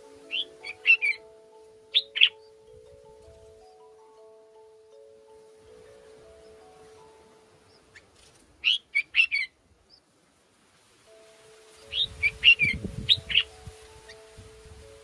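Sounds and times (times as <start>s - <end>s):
soft music with held notes: 0.0s - 9.5s, 10.7s - 15.0s
birds chirping: 0.0s - 10.1s, 11.1s - 14.4s.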